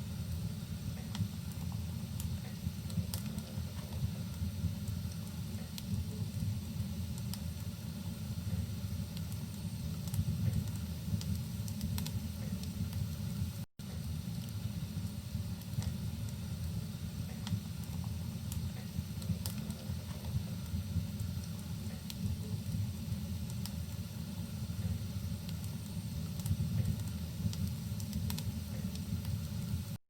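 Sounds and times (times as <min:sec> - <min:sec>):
wood fire crackling: 0:00.0 - 0:30.0
fire pops and snaps: 0:00.3 - 0:30.0.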